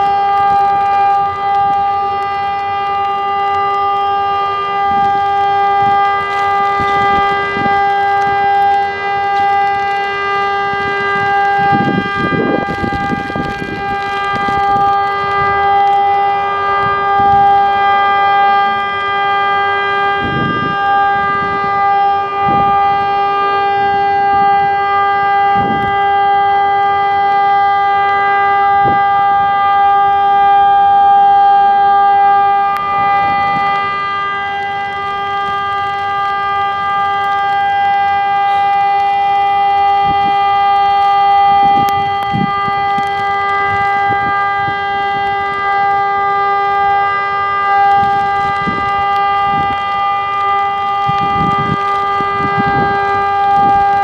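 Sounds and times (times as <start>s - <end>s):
electronic siren steady tone: 0.0s - 54.0s.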